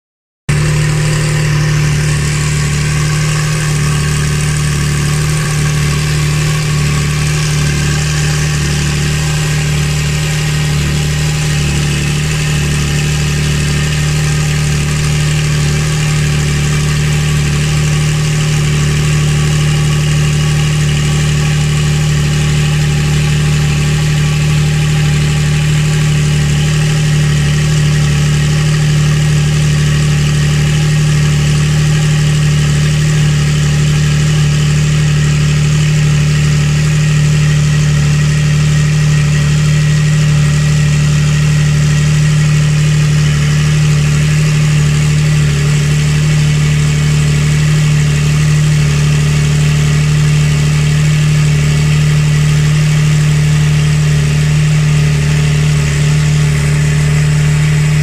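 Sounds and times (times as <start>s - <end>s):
car engine idling: 0.5s - 58.0s.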